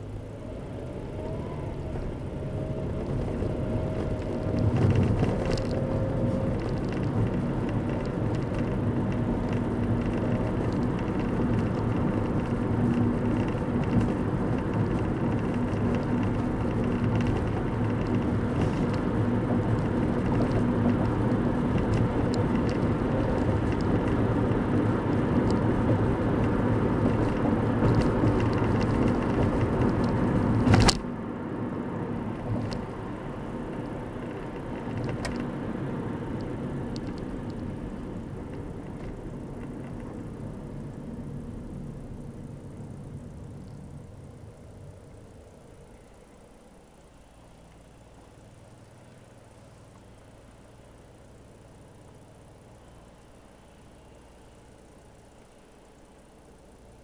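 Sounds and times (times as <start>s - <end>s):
car tyre and engine rumble: 0.0s - 57.0s.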